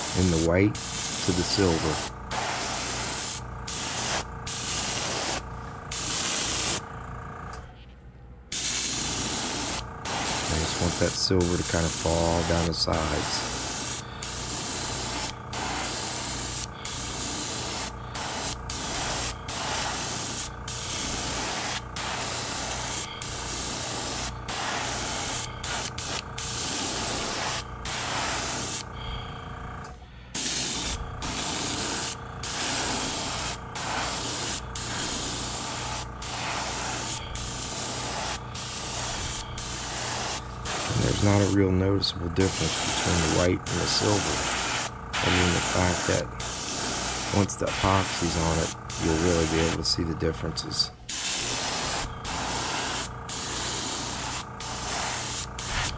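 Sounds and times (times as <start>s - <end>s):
airbrush spraying hiss: 0.0s - 6.9s, 8.5s - 28.9s, 30.4s - 50.0s, 51.1s - 55.9s.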